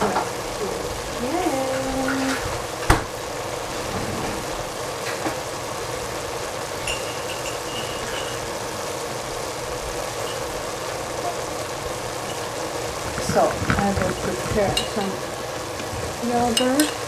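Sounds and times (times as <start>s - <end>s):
pot sizzling hiss: 0.0s - 17.0s.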